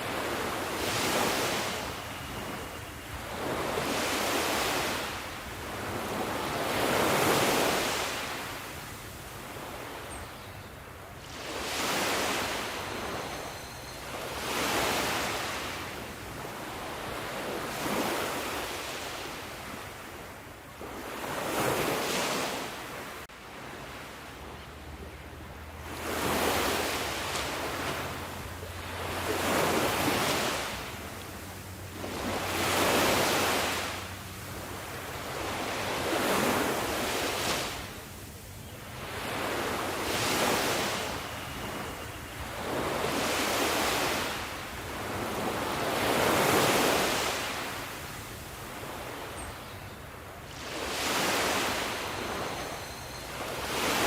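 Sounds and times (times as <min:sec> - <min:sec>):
sea waves washing in: 0:00.0 - 0:10.0, 0:11.1 - 0:13.5, 0:14.1 - 0:49.3, 0:50.2 - 0:54.0.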